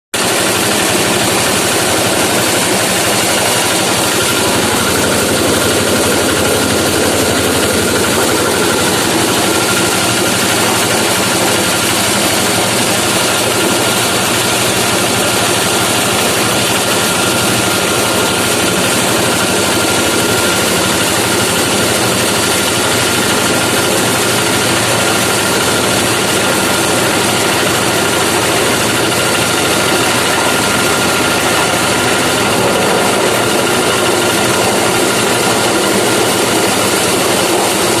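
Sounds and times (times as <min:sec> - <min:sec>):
grinding mill running: 0:00.1 - 0:38.0.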